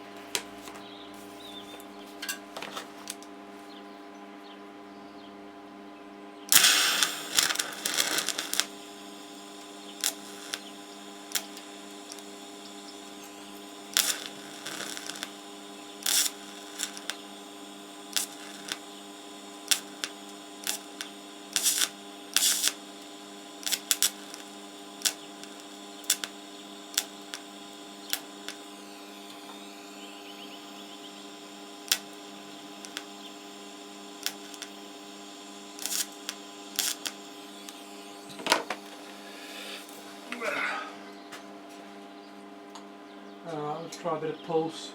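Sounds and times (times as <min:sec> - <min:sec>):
welding arc crackling: 0:00.0 - 0:03.3, 0:06.5 - 0:40.6
electrical hum: 0:00.0 - 0:44.9.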